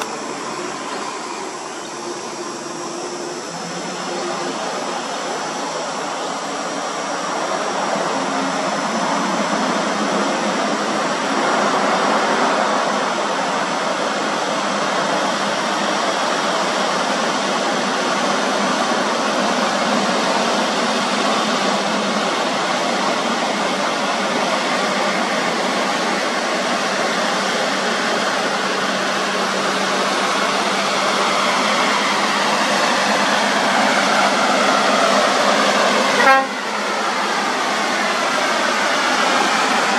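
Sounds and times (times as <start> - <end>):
truck engine and tyre noise: 0.0 - 39.9.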